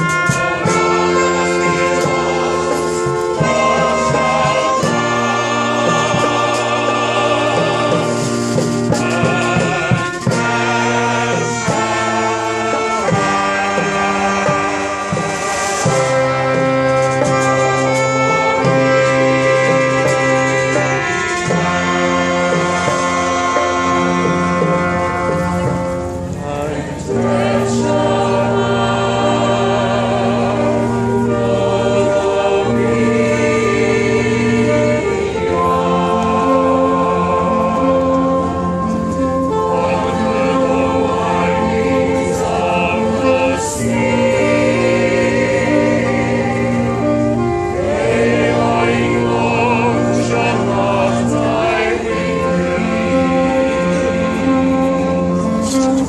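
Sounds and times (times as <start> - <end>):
brass band playing chords: 0.0 - 56.0
group of singers: 0.0 - 56.0.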